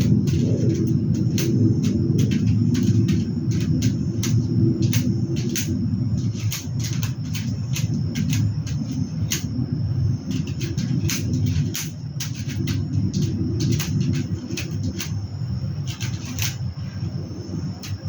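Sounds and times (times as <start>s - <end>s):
sharp clicks and scratches: 0.0s - 9.6s, 10.2s - 16.8s, 17.8s - 18.0s
passing train rumble: 0.0s - 18.0s.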